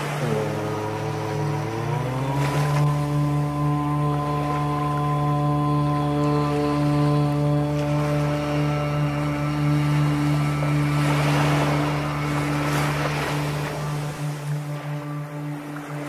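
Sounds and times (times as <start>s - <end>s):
ambient drone music: 0.0s - 16.0s
wash of noise: 0.0s - 16.0s.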